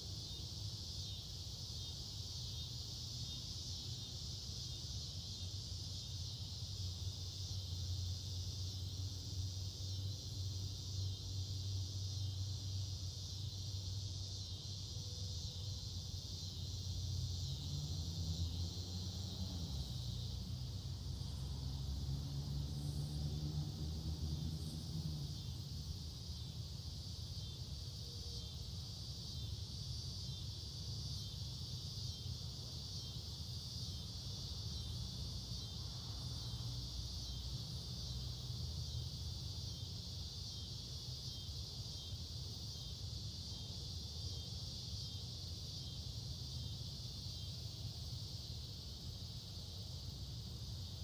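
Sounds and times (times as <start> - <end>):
insect chorus trilling: 0.0 - 51.0.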